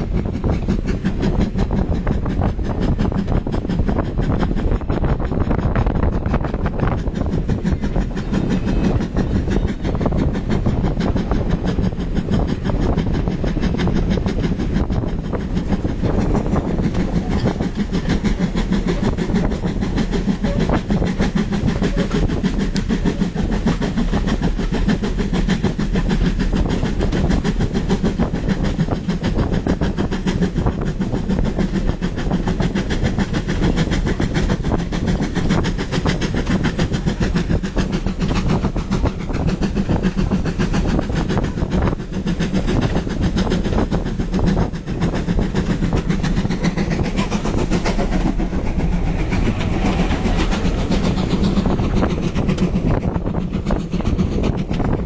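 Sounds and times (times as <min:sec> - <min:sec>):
train carriages rumbling on rails: 0:00.0 - 0:55.0
wheels clicking over track: 0:00.0 - 0:55.0.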